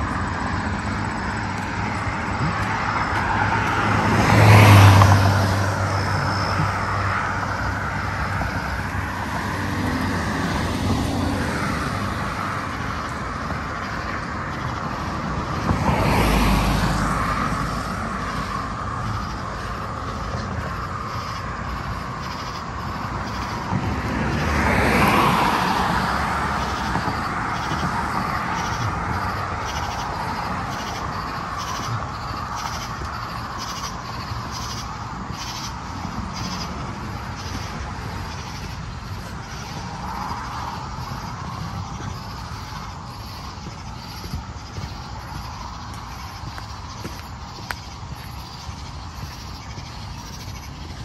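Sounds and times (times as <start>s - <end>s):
steady street hum: 0.0s - 51.0s
vehicle passing: 0.0s - 51.0s.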